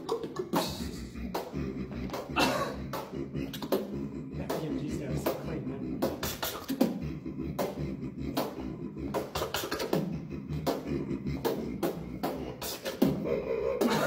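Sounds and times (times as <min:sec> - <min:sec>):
beatboxing: 0:00.0 - 0:14.0.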